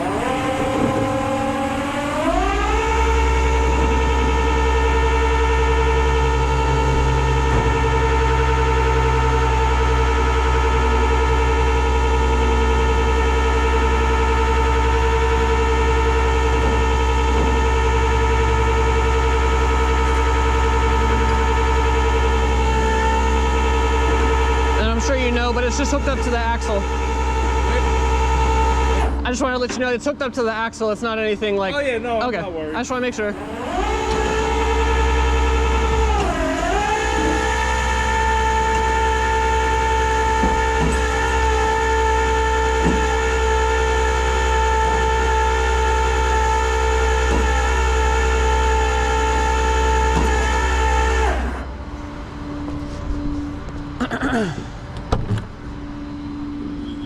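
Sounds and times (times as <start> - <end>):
hydraulic winch whine: 0.0 - 57.0
truck engine humming: 0.0 - 57.0.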